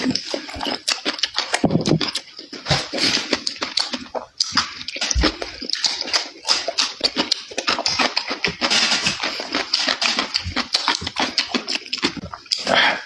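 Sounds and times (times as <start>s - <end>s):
chewing and smacking: 0.0s - 13.0s.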